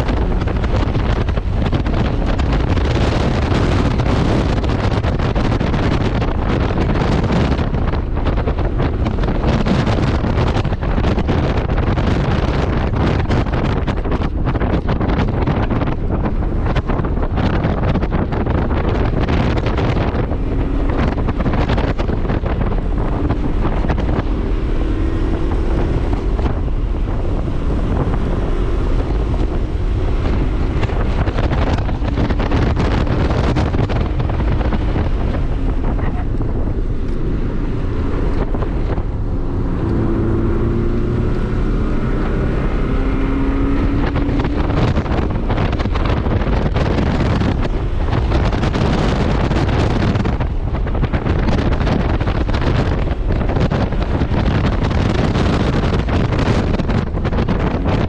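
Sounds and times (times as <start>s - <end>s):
car engine accelerating: 0.0s - 58.0s
wind buffeting microphone: 0.0s - 58.0s.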